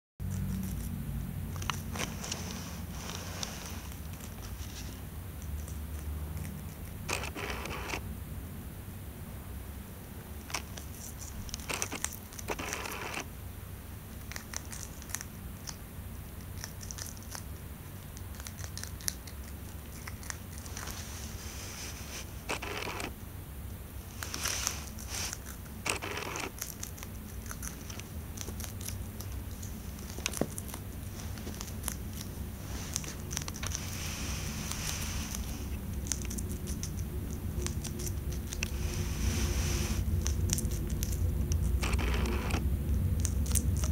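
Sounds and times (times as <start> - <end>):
hamster crunching food: 0.2 - 8.0, 10.2 - 23.2, 24.0 - 43.9
steady low hum: 0.2 - 43.9.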